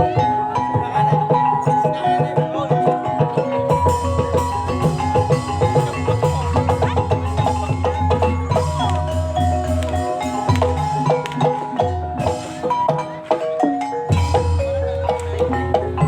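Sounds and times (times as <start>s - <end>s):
hand drum strokes: 0.0s - 16.0s
tuned mallet percussion: 0.0s - 16.0s.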